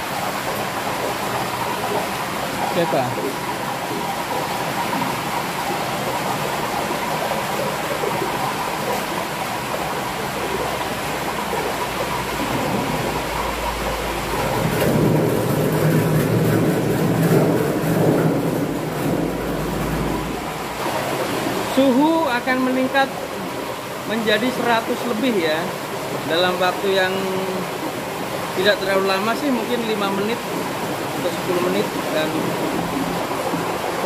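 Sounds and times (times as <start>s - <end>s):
vacuum pump rushing with whine: 0.0s - 34.0s.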